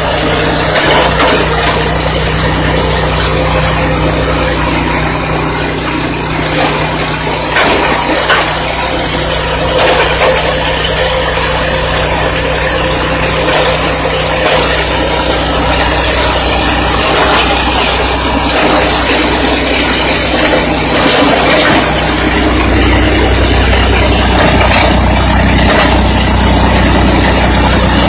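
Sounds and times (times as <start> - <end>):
grinder machine grinding corn: 0.0 - 28.0.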